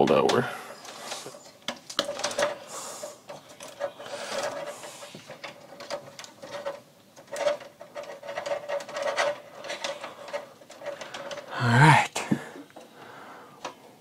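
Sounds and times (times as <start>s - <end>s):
wires clicking and scraping: 0.0s - 14.0s.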